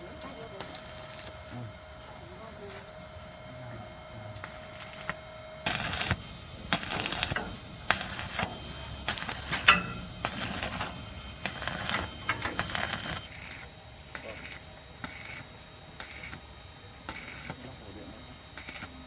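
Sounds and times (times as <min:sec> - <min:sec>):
arc welder crackling: 0:00.0 - 0:19.0.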